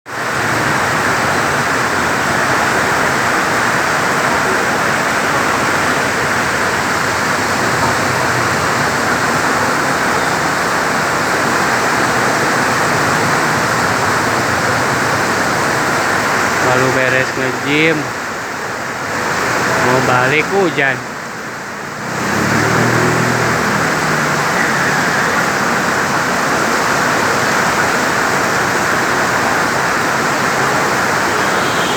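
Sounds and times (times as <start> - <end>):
rain falling steadily: 0.1 - 31.9.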